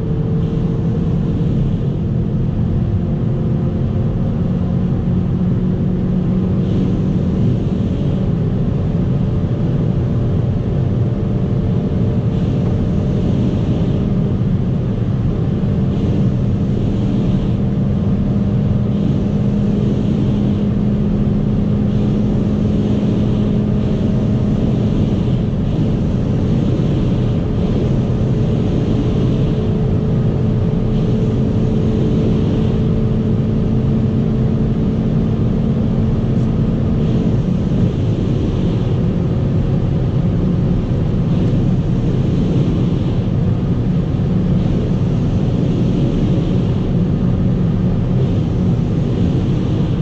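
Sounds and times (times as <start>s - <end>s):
car engine at high revs: 0.0s - 50.0s
wind and road roar: 0.0s - 50.0s.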